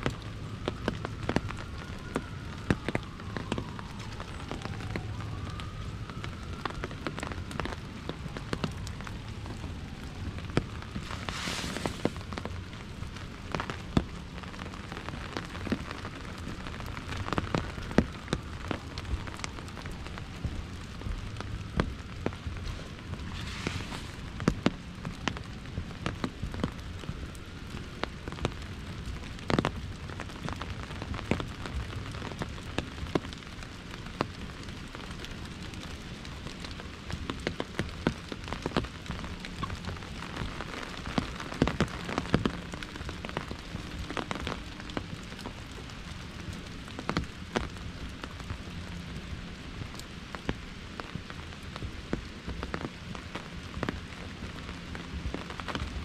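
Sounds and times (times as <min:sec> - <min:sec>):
drips striking umbrella canopy: 0:00.0 - 0:33.5, 0:34.1 - 0:56.0
rain on an umbrella: 0:00.0 - 0:56.0.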